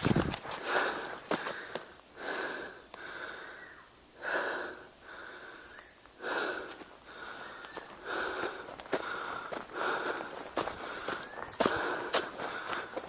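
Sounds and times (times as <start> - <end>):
person breathing hard: 0.4 - 13.0.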